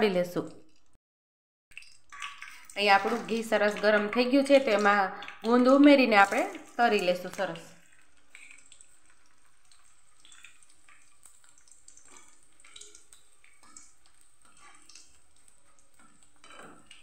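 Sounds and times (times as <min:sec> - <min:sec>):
gum frying in hot ghee: 0:01.7 - 0:17.0.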